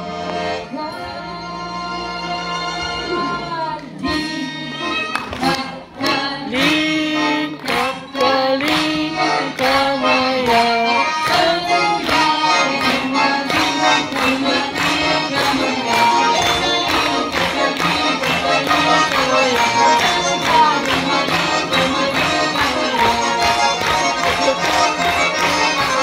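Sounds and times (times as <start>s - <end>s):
accordion playing chords: 0.0s - 26.0s
violin: 0.0s - 26.0s
woman singing: 0.6s - 18.0s, 18.8s - 23.8s.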